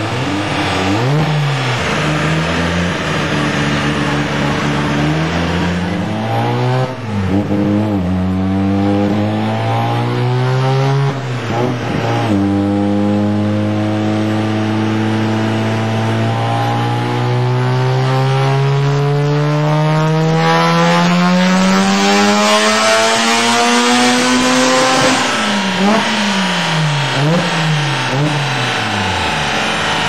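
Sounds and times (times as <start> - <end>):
rotary engine revving: 0.0 - 30.0.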